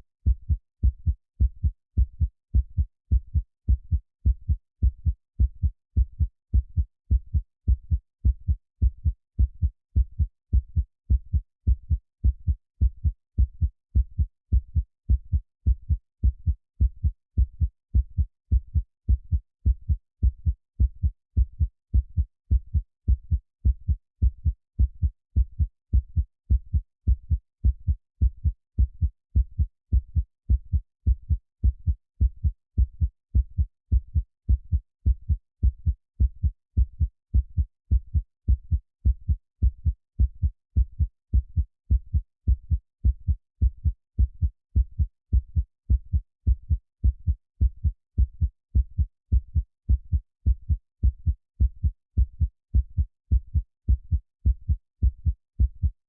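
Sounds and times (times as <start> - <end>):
heartbeat thumps: 0.3 - 56.0.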